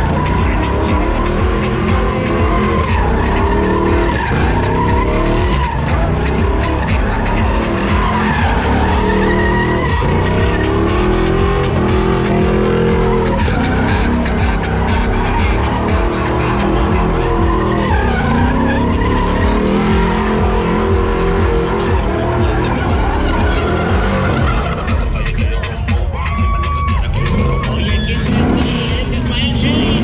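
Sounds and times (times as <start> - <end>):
truck engine revving: 0.0 - 30.0
tyres spinning in a burnout: 0.0 - 30.0.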